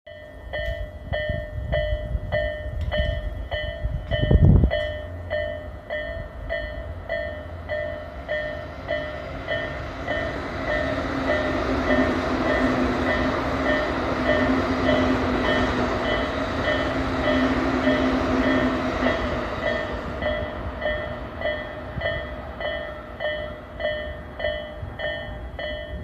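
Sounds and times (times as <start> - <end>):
level crossing bell clanging: 0.1 - 26.0
train running noise: 0.1 - 26.0.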